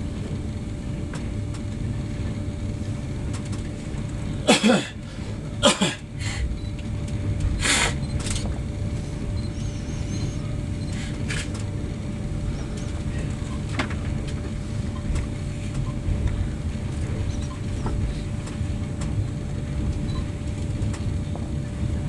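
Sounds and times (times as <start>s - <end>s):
train rumbling inside carriage: 0.0s - 22.0s.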